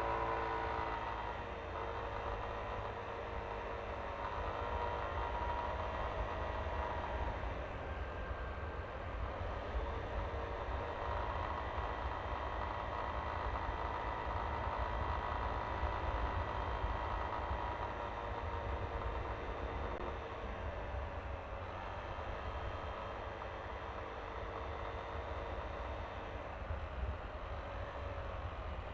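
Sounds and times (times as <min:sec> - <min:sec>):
scooter engine running: 0:00.0 - 0:28.9.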